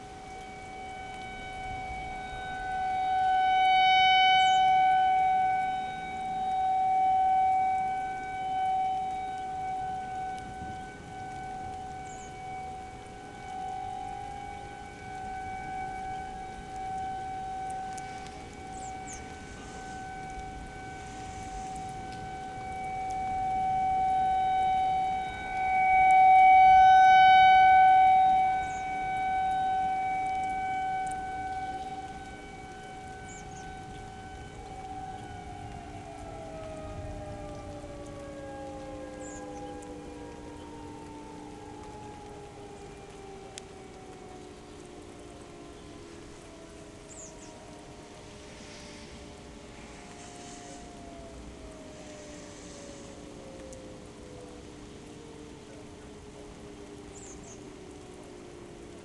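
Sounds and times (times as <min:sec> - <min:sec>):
rotating warning siren: 0:00.0 - 0:59.0.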